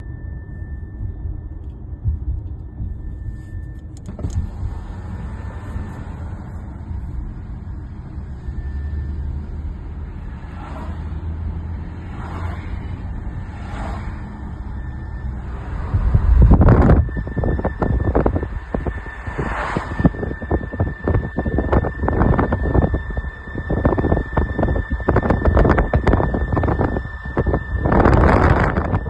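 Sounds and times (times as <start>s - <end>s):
high squeal: 0.0s - 29.0s
road and engine rumble: 0.0s - 29.0s.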